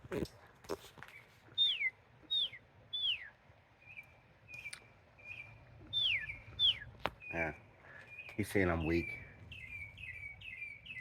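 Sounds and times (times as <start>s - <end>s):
bird singing whistled notes: 1.1s - 11.0s.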